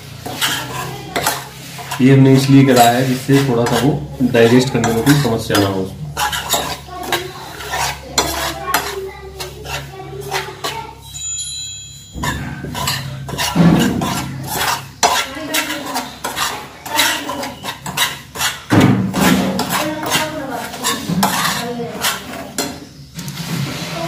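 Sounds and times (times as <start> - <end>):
metal spoon scraping a frying pan: 0.0 - 24.0.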